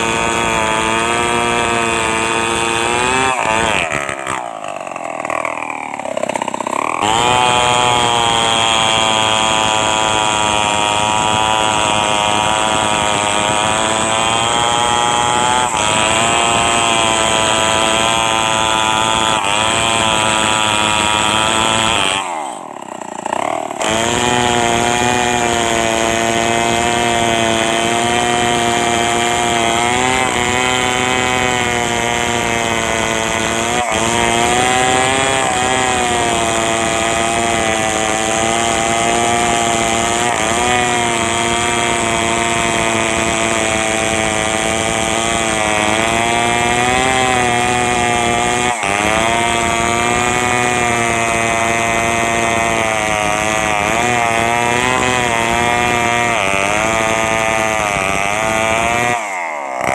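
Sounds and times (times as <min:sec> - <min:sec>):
chainsaw cutting at full throttle: 0:00.0 - 0:59.9.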